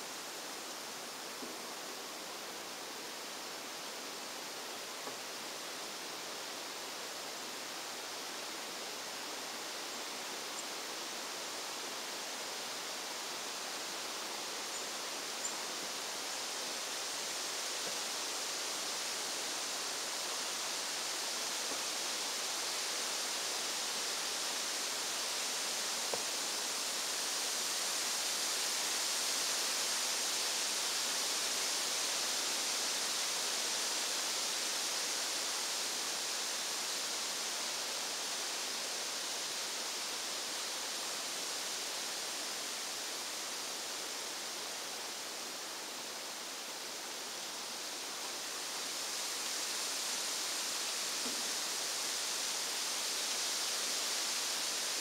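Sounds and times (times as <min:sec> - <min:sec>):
high-pitched hiss: 0:00.0 - 0:55.0.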